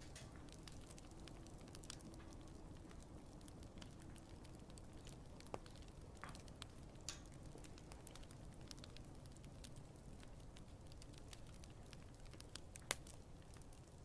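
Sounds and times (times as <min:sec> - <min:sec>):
sharp fire pops: 0:00.0 - 0:13.9
wood fire crackling: 0:00.0 - 0:14.0.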